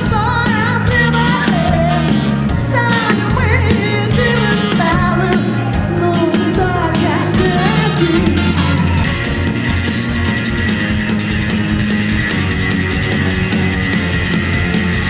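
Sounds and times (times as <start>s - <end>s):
loud pop-rock music with vocals: 0.0s - 15.0s.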